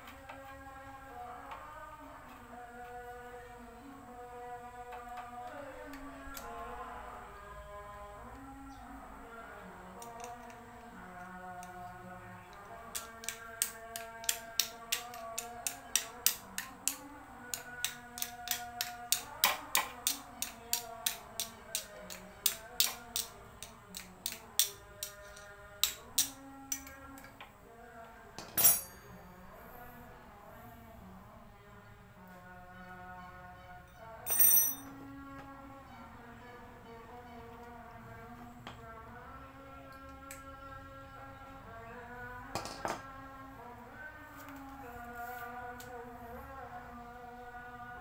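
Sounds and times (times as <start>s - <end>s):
faint music: 0.0s - 48.0s.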